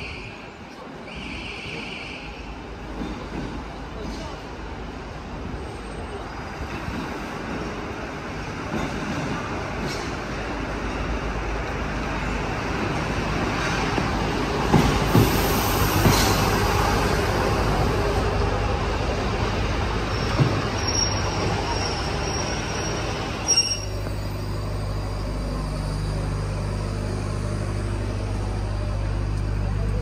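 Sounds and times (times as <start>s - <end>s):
diesel train rumbling: 0.0s - 30.0s.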